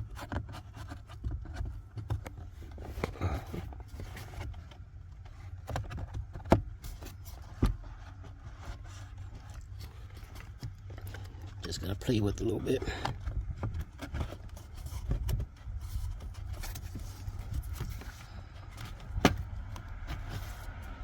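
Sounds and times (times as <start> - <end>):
filter scraping in plastic housing: 0.0 - 21.0.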